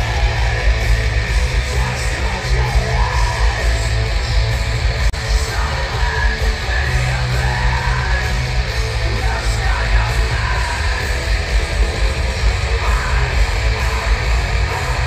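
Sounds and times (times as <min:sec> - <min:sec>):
distorted guitars: 0:00.0 - 0:15.0
heavy drums: 0:00.0 - 0:15.0
heavy metal band playing live: 0:00.0 - 0:15.0.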